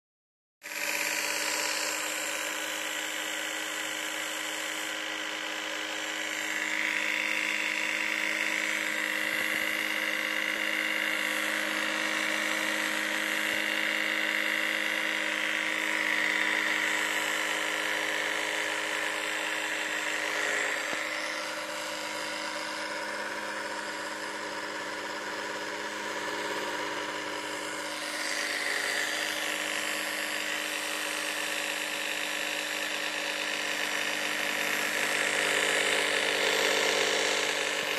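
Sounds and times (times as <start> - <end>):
slot car motor whining: 0.6 - 37.9.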